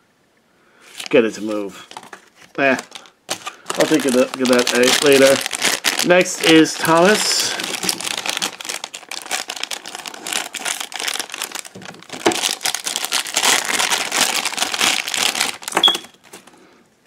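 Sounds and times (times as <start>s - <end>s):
plastic packet crinkling: 1.0s - 16.6s.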